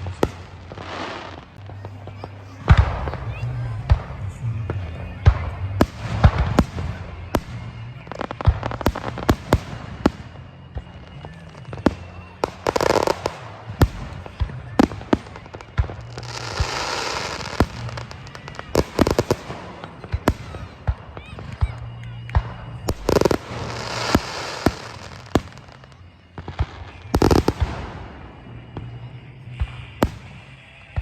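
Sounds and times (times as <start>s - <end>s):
fireworks bangs and pops: 0.0s - 31.0s
fireworks hissing and crackling: 0.0s - 31.0s.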